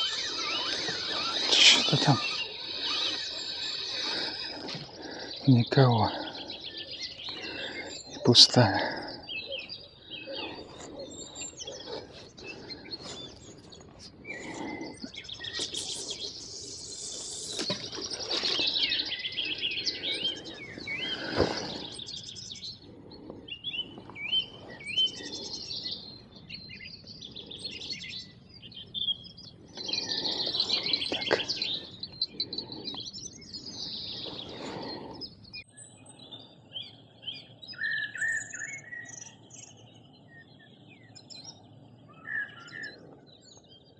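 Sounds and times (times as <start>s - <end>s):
songbirds singing and chirping: 0.0s - 43.9s.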